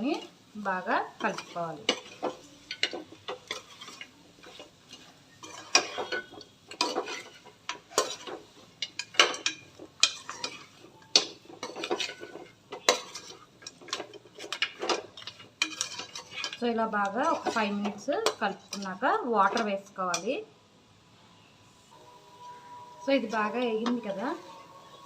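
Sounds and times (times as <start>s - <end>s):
spoon scraping cooking pan: 0.0s - 20.3s.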